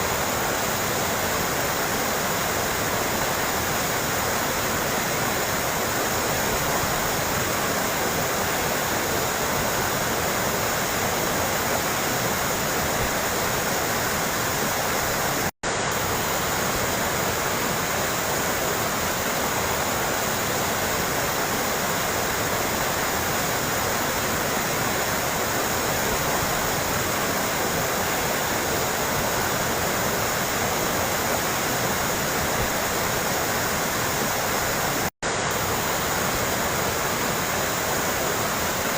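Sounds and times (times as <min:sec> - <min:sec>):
running water babbling: 0:00.0 - 0:38.9.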